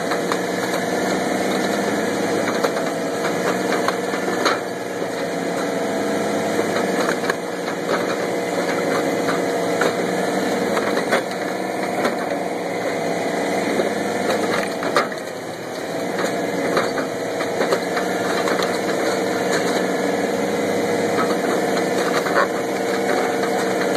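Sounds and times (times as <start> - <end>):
small engine running: 0.0 - 23.9.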